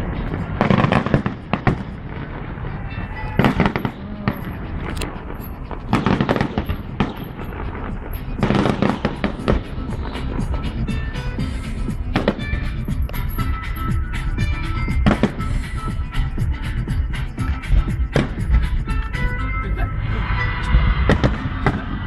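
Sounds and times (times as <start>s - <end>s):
fireworks banging and crackling: 0.0s - 19.0s, 20.5s - 22.0s
steady low rumble: 0.0s - 22.0s.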